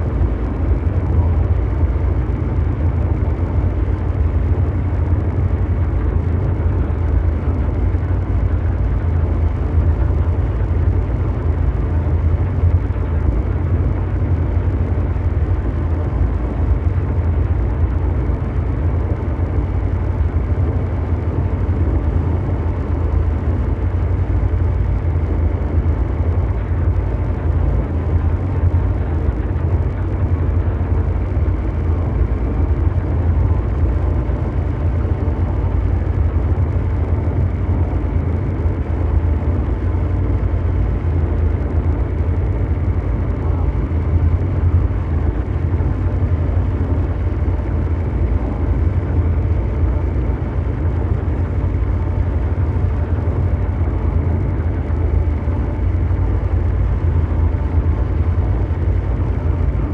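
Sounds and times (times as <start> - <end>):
mechanical drone hum: 0.0 - 59.9.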